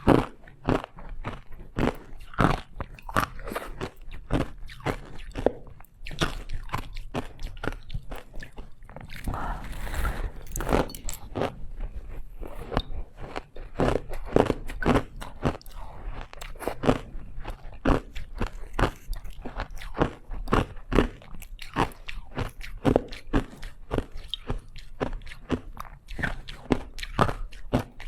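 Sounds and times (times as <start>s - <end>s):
person chewing ice: 0.0s - 28.0s.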